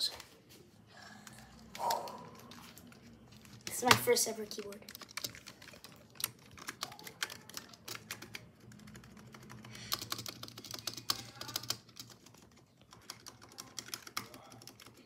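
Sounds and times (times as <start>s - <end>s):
fast keyboard typing: 1.3s - 15.0s.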